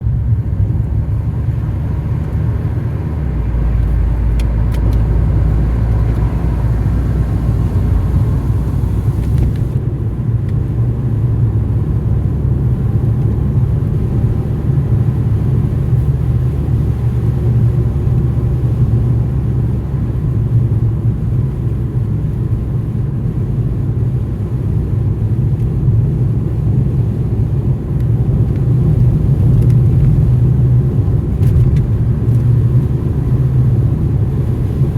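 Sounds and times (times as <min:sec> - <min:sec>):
car driving road and engine rumble: 0:00.0 - 0:34.9.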